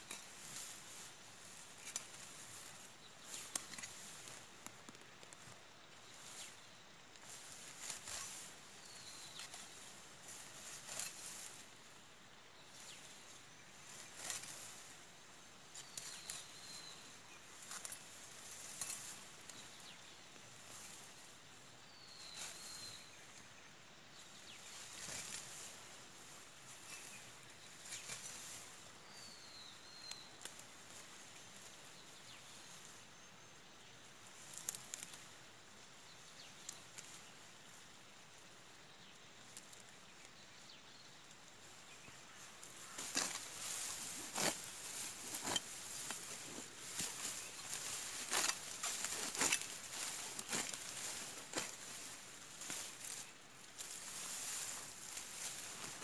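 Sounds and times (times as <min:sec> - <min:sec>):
dry grass rustling: 0:00.0 - 0:56.0.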